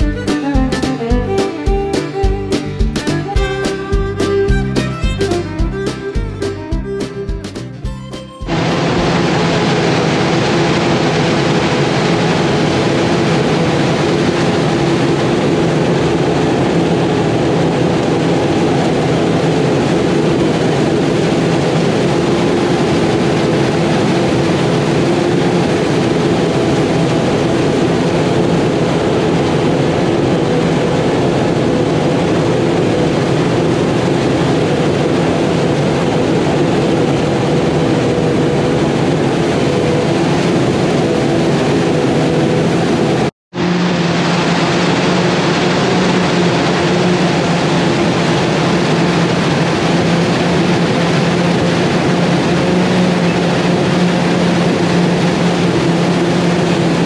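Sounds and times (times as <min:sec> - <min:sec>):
constant machine hum: 0:00.0 - 0:57.0.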